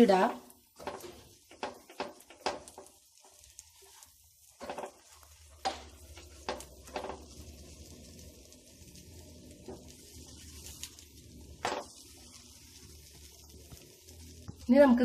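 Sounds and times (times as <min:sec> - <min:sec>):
faint sizzling: 0:00.0 - 0:15.0
spatula scraping frying pan: 0:00.1 - 0:14.8.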